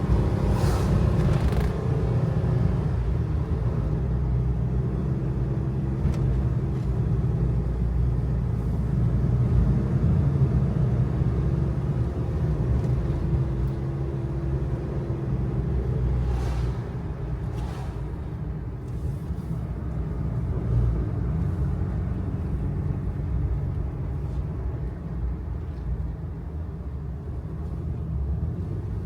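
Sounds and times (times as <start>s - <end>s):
tyre and road noise: 0.0s - 8.2s, 9.3s - 29.0s.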